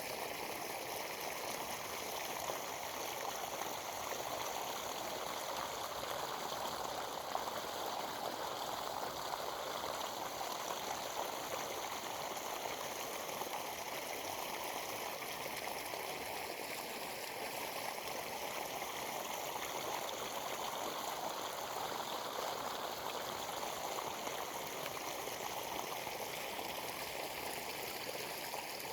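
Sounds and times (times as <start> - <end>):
flowing water rushing: 0.0 - 28.9.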